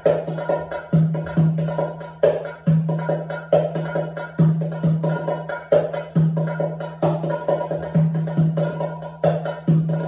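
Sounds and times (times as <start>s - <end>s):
goblet drum played by hand: 0.0s - 10.0s.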